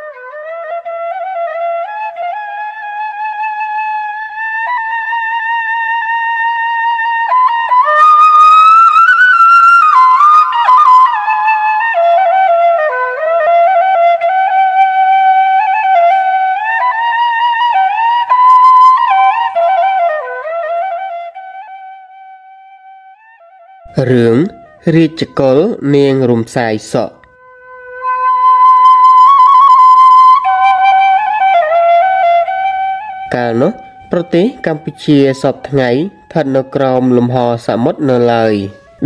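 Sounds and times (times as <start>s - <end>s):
solo flute melody: 0.0s - 26.3s, 27.0s - 39.0s.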